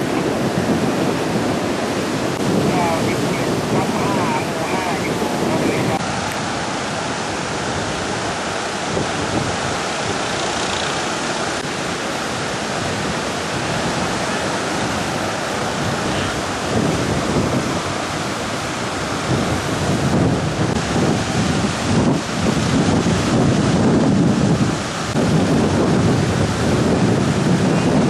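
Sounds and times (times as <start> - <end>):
heavy surf breaking: 0.0 - 28.0
wind buffeting microphone: 0.0 - 28.0.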